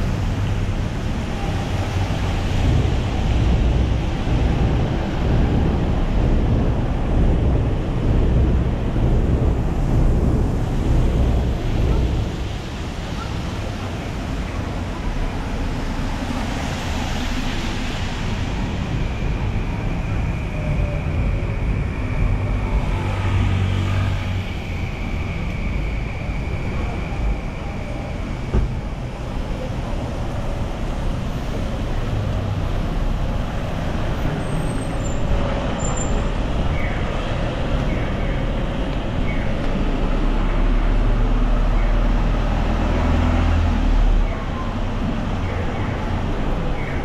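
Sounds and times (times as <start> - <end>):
heavy vehicle engine rumble: 0.0 - 47.0
vehicles passing on wet road: 0.0 - 47.0.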